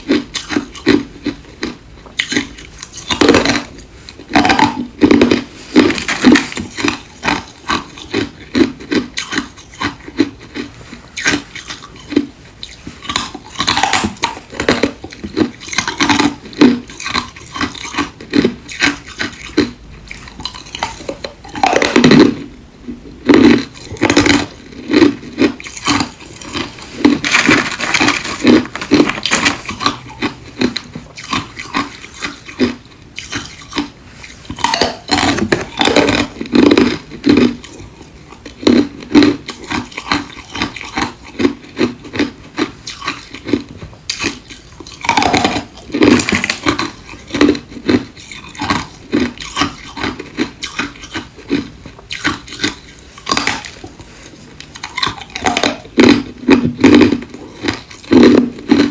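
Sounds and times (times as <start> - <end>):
ice being chewed: 0.0 - 22.5, 23.2 - 58.9.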